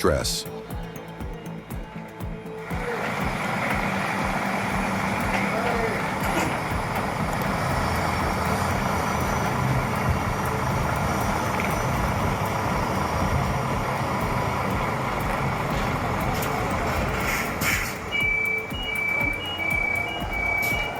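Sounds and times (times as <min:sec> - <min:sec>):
truck engine droning: 0:02.6 - 0:20.9.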